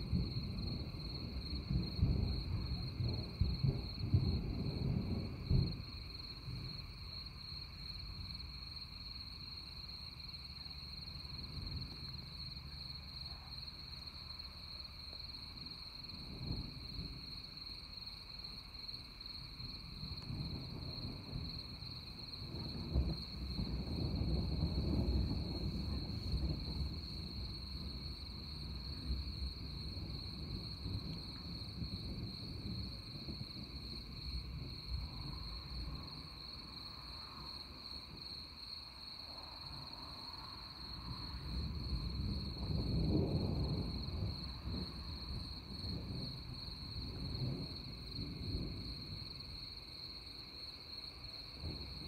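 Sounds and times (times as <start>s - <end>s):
distant thunder rumbling: 0.0s - 9.8s, 10.5s - 18.3s, 19.1s - 38.6s, 39.6s - 50.6s, 51.2s - 52.0s.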